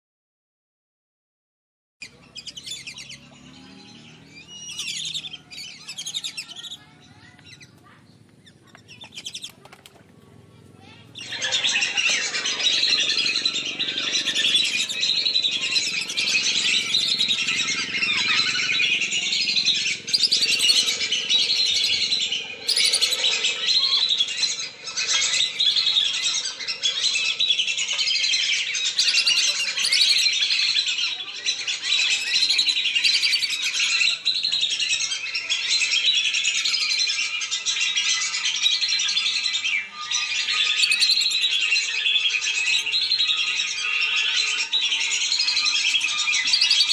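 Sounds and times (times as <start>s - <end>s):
ducks whistling calls: 2.1s - 7.7s, 11.1s - 46.9s.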